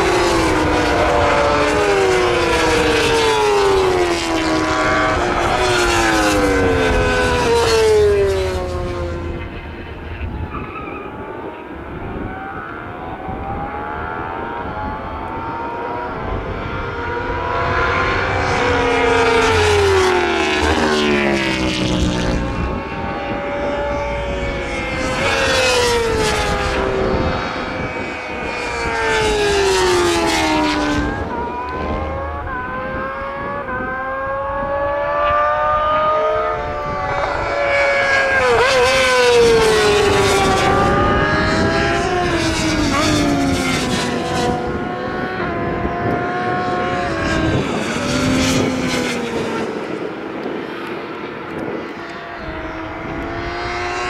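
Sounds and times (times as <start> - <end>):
racing motorcycles passing: 0.0 - 54.0.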